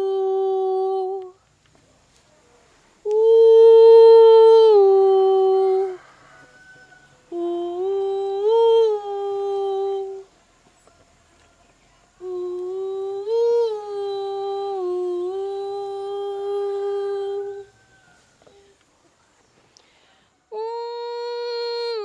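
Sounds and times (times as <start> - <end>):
woman singing wordless notes: 0.0 - 1.5, 3.0 - 6.4, 7.2 - 18.8, 19.8 - 22.0.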